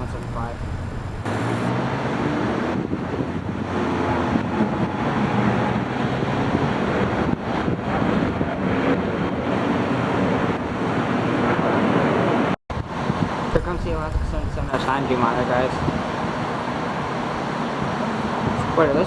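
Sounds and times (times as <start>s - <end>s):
distant jet engines roaring: 0.0s - 19.0s.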